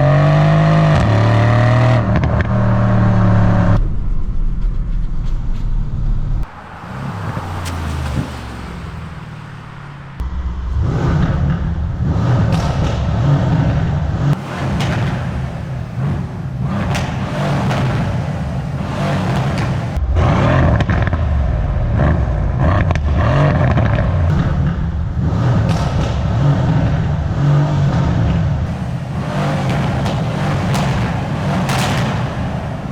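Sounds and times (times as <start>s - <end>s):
car engine running loud exhaust: 0.0s - 32.9s.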